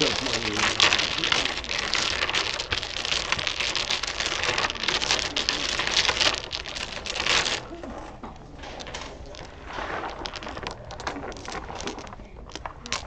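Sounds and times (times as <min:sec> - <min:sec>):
dominoes clattering on wooden table: 0:00.0 - 0:13.0.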